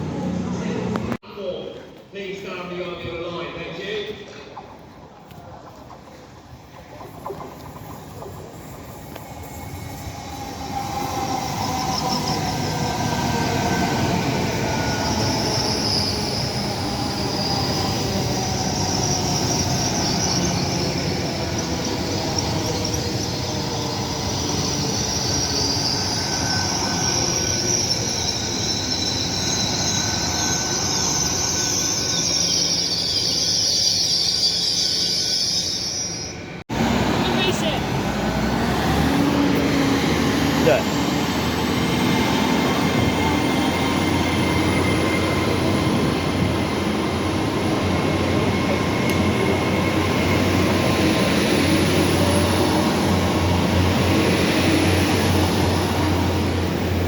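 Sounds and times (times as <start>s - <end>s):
train wheels squealing on rails: 6.0s - 36.6s, 37.4s - 57.0s.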